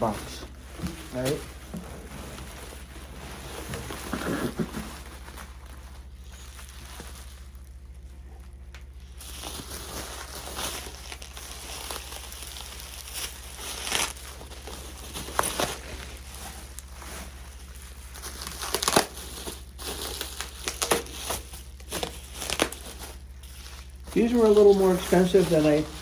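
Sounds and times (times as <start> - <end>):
packaging rustling and crinkling: 0.0 - 26.0.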